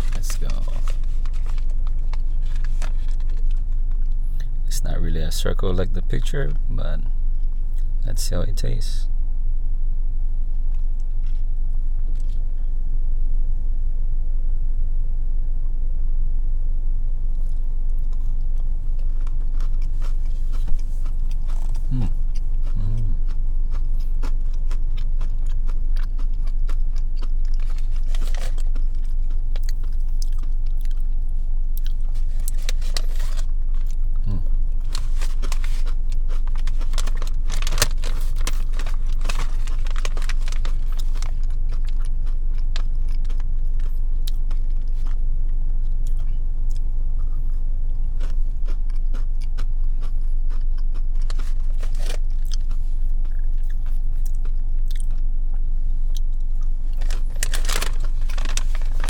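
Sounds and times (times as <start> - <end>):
person chewing crunchy food: 0.0 - 4.6, 10.7 - 12.6, 17.3 - 59.0
steady low hum: 0.0 - 59.0.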